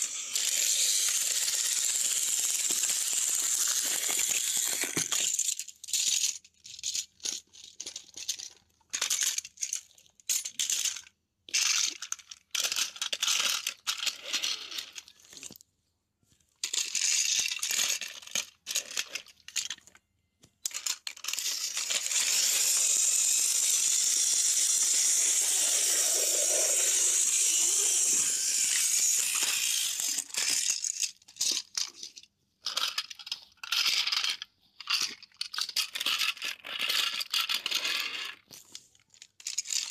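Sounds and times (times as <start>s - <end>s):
plastic toy trains rattling: 0.0s - 15.6s, 16.6s - 20.0s, 20.6s - 39.9s.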